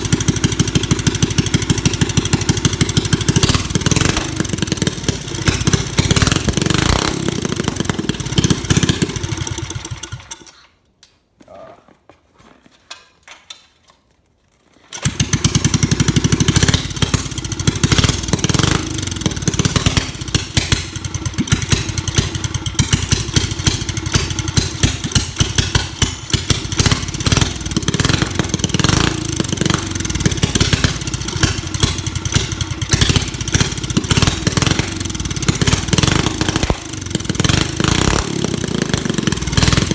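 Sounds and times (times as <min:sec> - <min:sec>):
small bike engine running rough: 0:00.0 - 0:10.5, 0:15.0 - 0:39.9.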